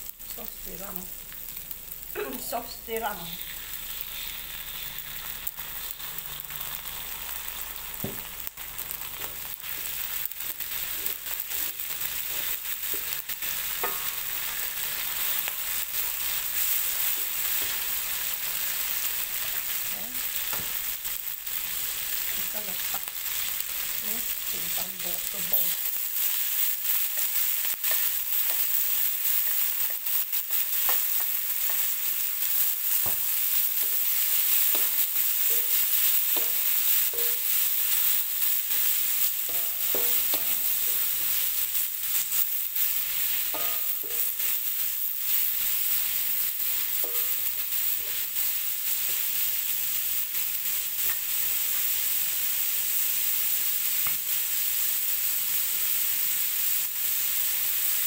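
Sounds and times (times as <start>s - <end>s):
food sizzling in hot oil: 0.0s - 58.0s.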